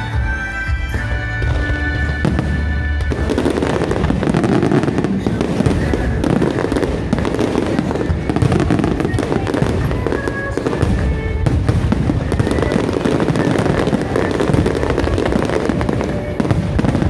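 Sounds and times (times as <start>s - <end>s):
fireworks booming: 0.0s - 17.0s
fireworks crackling: 0.0s - 17.0s.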